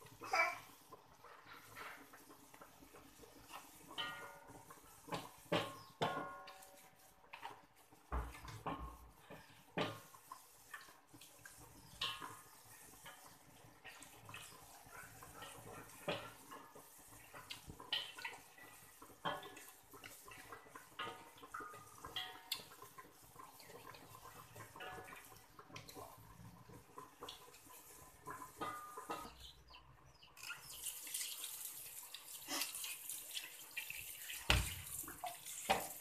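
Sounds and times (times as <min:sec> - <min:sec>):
water splashing and dripping: 0:00.0 - 0:36.0.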